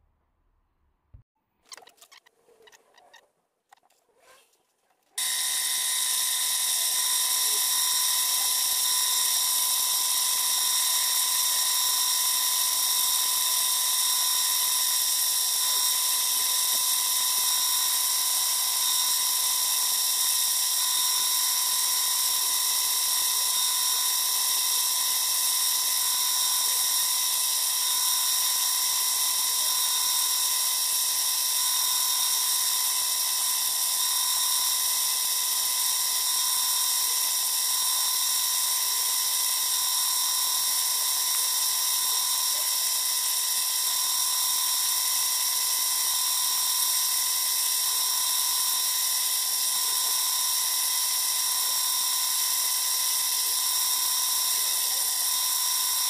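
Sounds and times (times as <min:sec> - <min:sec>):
drill press whining: 0:05.2 - 0:56.0
sanding pad against stone: 0:05.2 - 0:56.0.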